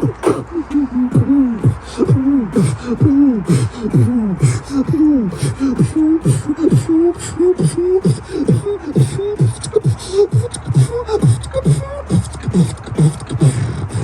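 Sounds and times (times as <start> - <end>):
beatboxed hi-hat hisses: 0.0 - 14.0
vocal beatboxing bass sweeps: 0.0 - 14.0.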